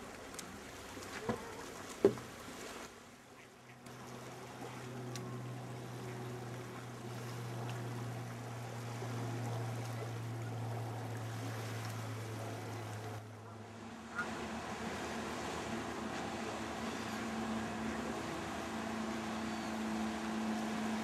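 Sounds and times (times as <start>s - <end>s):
water lapping on shore: 0.0s - 21.0s
steady low hum: 3.7s - 21.0s.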